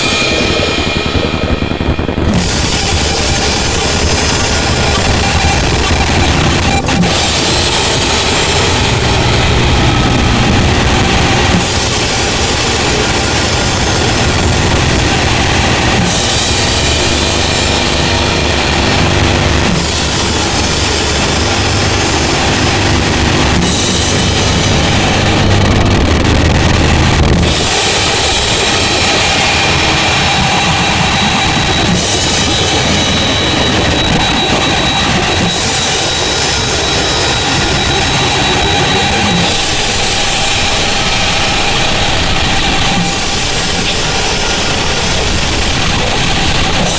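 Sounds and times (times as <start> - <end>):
deep low rumble: 0.0 - 46.9
distorted static noise: 0.0 - 46.9.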